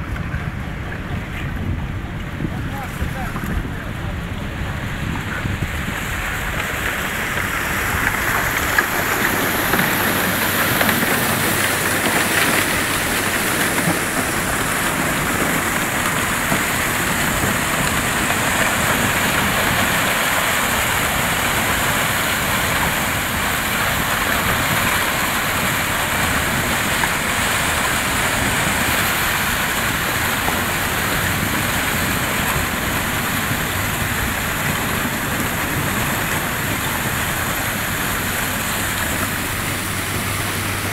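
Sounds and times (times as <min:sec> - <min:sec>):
ice grinding against hull: 0:05.9 - 0:40.9.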